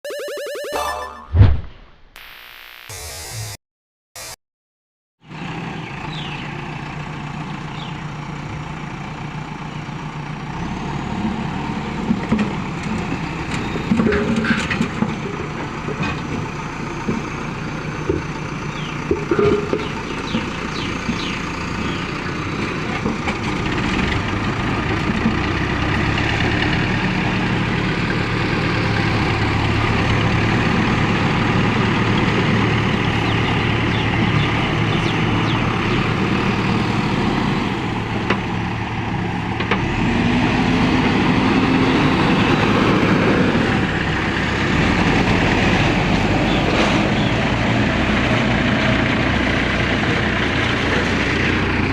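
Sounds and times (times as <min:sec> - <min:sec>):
heavy diesel machinery running: 0:05.2 - 0:51.9.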